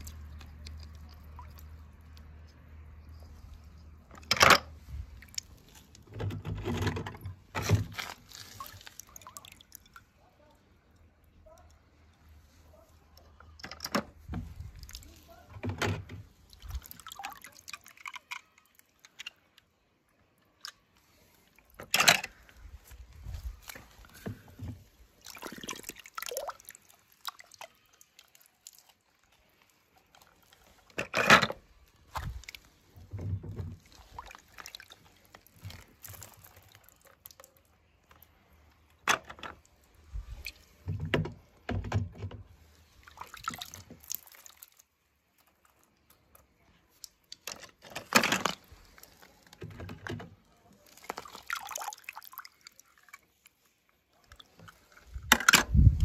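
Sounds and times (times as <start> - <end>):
water splashing and dripping: 0.0 - 13.6, 14.2 - 19.8, 20.6 - 31.1, 31.7 - 41.7, 42.5 - 56.0.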